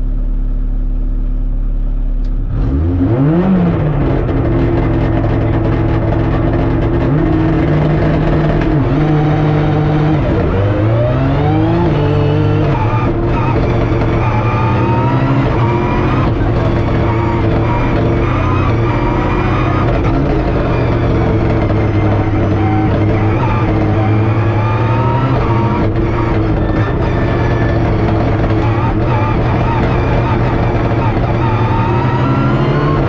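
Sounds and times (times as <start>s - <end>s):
car engine idling and revving: 0.0s - 33.0s
car accelerating through gears: 2.5s - 33.0s.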